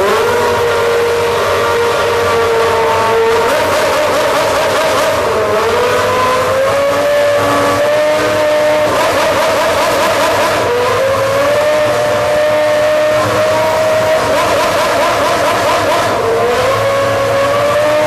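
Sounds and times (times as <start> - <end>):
racing engine at high revs: 0.0 - 18.0.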